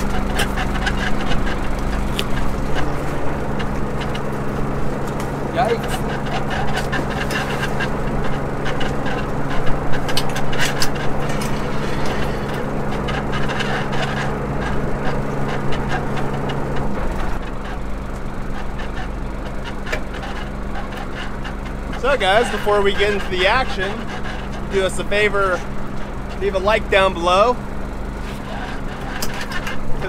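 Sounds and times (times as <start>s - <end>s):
deck gear clicks and knocks: 0.0s - 26.7s, 28.3s - 30.0s
boat engine humming: 0.0s - 30.0s.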